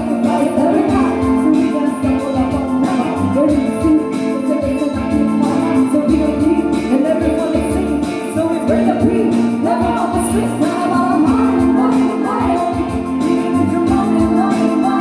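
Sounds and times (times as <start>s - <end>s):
pop song with singing: 0.0s - 15.0s.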